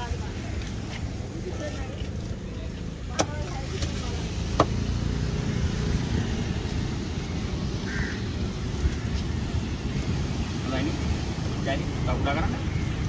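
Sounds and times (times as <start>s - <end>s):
surf rumbling: 0.0s - 13.0s.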